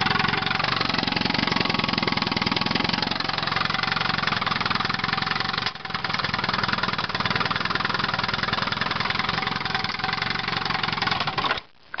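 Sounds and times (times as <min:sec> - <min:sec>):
outboard motor running: 0:00.0 - 0:11.4.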